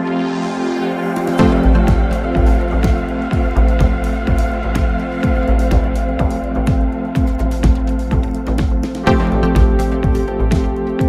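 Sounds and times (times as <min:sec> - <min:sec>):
synth pad: 0:00.0 - 0:11.0
deep kick drum beat: 0:01.4 - 0:11.0.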